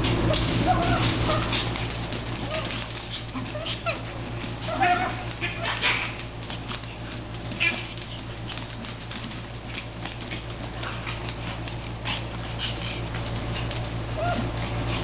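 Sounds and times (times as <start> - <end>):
dog claws scrabbling on tiles: 0.0 - 15.0
steady low hum: 0.0 - 15.0.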